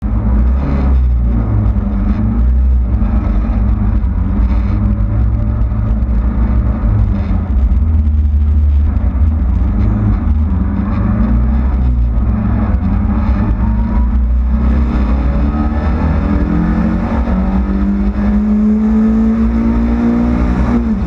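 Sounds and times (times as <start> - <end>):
race car engine at high revs: 0.0 - 21.0.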